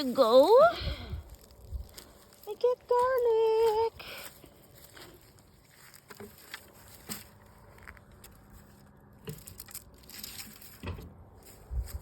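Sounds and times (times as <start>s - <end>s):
garlic plants rustling: 0.0s - 12.0s.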